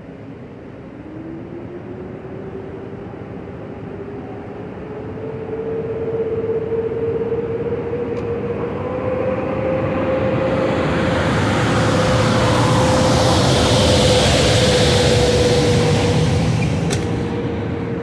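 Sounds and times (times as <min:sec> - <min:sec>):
electric train rumbling and whining: 0:00.0 - 0:18.0.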